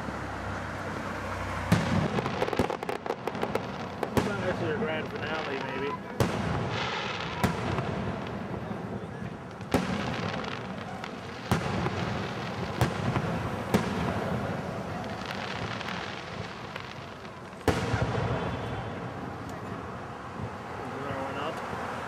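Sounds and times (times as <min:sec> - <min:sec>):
fireworks rumble: 0:00.0 - 0:22.0
firework bangs: 0:01.0 - 0:21.5.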